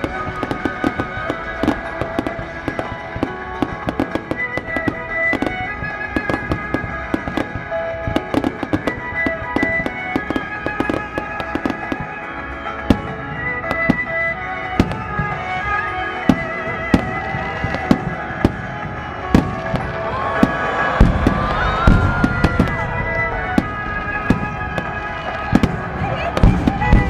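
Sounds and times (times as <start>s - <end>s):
fireworks popping and crackling: 0.0s - 27.0s
music with long held notes: 0.0s - 27.0s.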